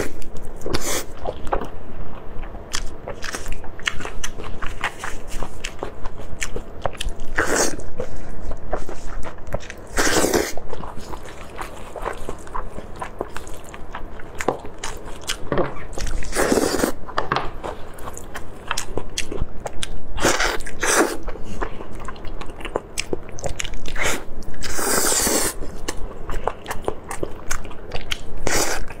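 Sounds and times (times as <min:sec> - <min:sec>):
wet chewing and smacking: 0:00.0 - 0:29.0.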